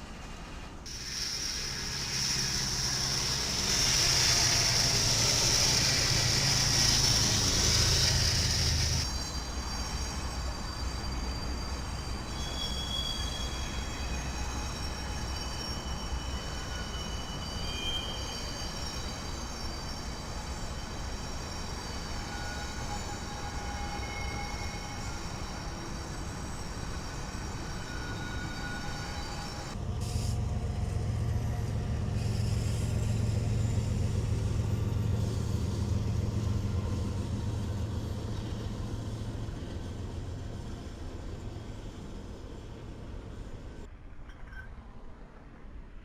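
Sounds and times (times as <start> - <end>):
wheels hissing on track: 0.0 - 43.9
train rolling on rails: 0.0 - 46.0
faint wheel squeals: 0.6 - 44.8.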